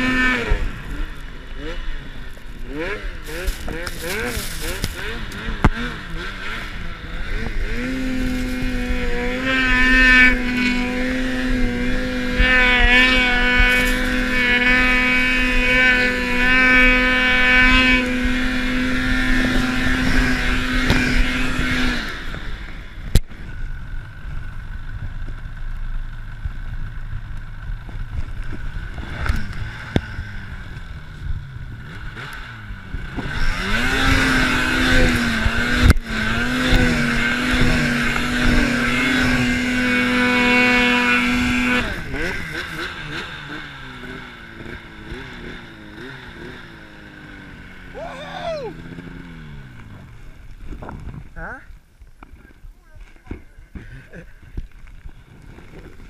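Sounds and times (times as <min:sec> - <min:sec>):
snowmobile engine revving: 0:00.0 - 0:25.6, 0:27.8 - 0:51.7.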